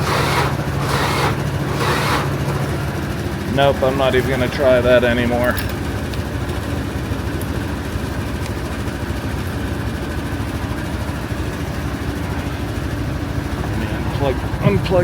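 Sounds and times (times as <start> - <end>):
scooter engines idling: 0.0 - 15.0.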